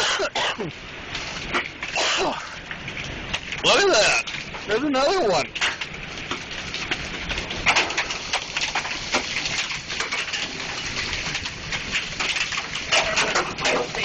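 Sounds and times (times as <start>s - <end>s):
hailstones striking hard surfaces: 0.0s - 14.0s
heavy rain: 0.0s - 14.0s.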